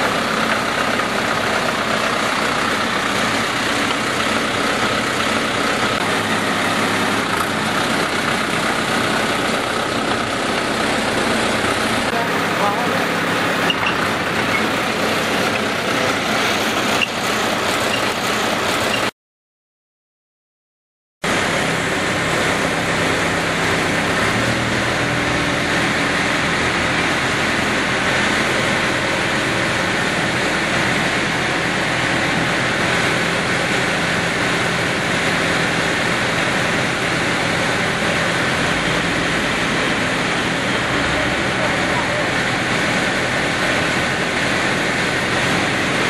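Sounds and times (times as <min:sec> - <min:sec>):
drilling rig running: 0:00.0 - 0:19.1, 0:21.2 - 0:46.0.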